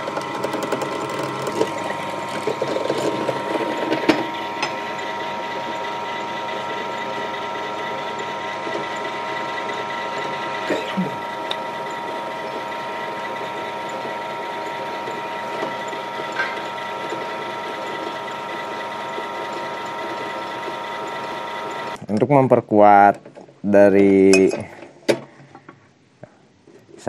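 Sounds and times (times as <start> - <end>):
drill press motor humming: 0.0 - 22.0.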